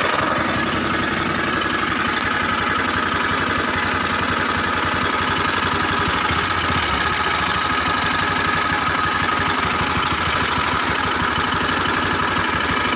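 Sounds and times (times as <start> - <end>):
motorcycle engine idling with clatter: 0.0 - 12.9.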